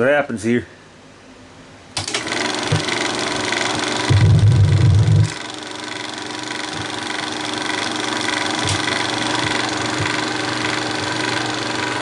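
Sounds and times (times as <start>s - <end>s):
film projector whirring: 2.0s - 12.0s.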